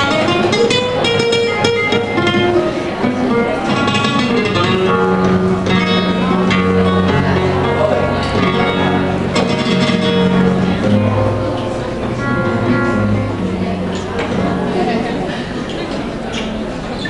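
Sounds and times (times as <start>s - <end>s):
flamenco acoustic guitar: 0.0s - 17.0s.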